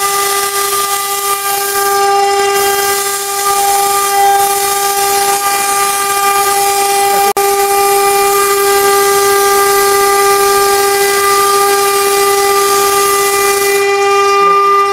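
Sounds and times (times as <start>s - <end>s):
cnc router spindle whine: 0.0s - 14.9s.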